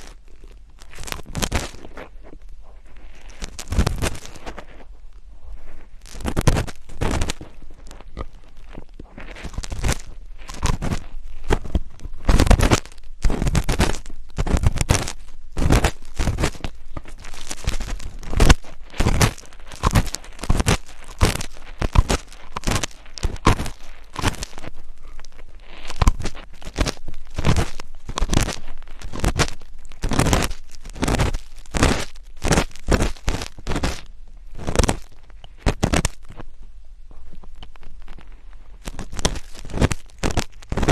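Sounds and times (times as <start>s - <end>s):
scratching and rubbing on microphone: 0.0s - 40.9s.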